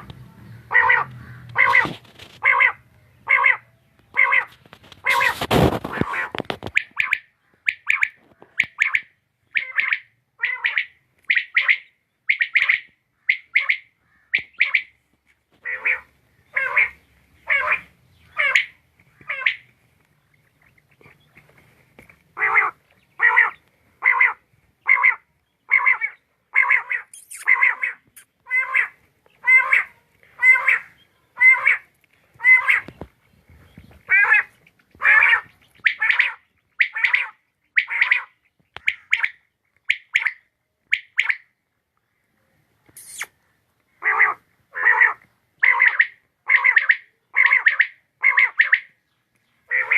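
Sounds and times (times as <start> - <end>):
quail calling: 0.0 - 19.7, 22.3 - 41.5, 43.0 - 43.3, 43.9 - 49.0, 49.7 - 49.9.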